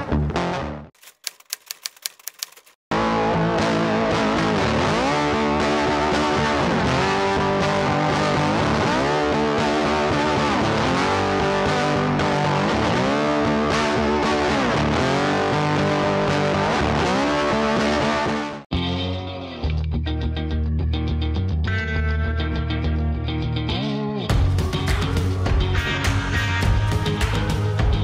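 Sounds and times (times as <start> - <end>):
guitar music with sliding notes: 2.9 - 28.0.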